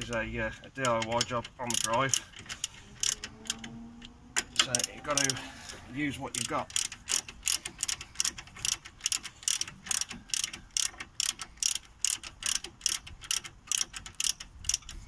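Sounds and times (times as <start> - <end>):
ratchet wrench clicking: 0.0 - 15.0.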